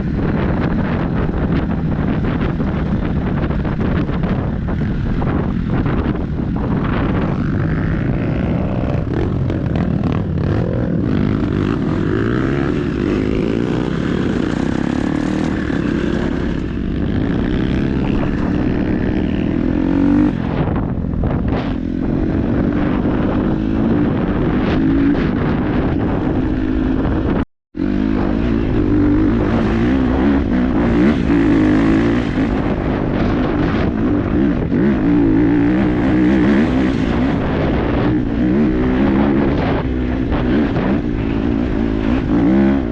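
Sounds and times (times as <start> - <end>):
dirt bike engine revving: 6.6 - 42.9.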